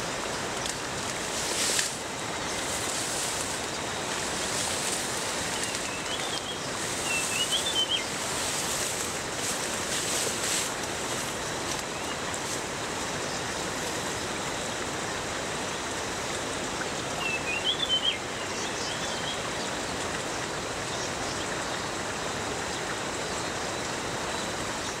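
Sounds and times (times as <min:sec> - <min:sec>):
forest stream rushing: 0:00.0 - 0:25.0.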